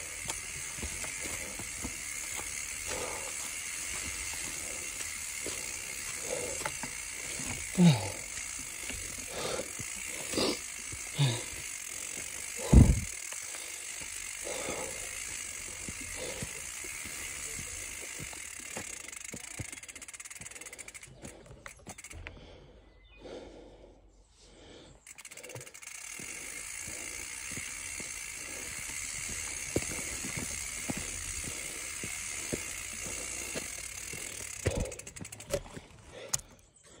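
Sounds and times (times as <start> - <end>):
bike tyres rushing on dirt: 0.0 - 21.4, 25.1 - 36.3
bike rattling over rocks: 0.0 - 22.2, 25.1 - 36.4.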